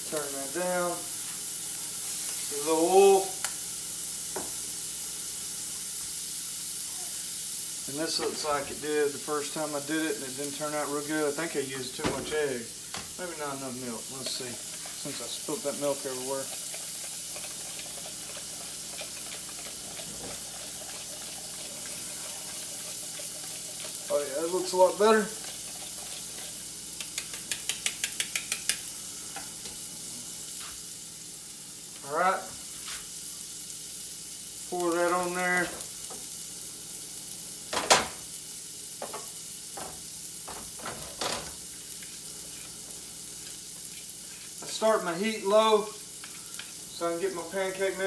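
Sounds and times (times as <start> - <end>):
sausage sizzling in a pan: 0.0 - 48.0.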